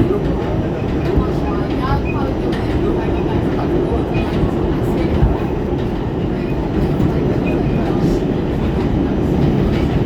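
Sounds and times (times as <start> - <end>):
subway train wheels rumbling: 0.0 - 10.0.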